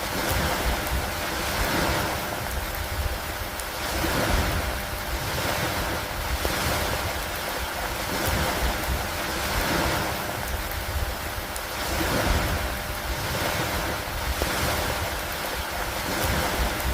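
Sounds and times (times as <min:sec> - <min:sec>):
rain with wind: 0:00.0 - 0:16.9.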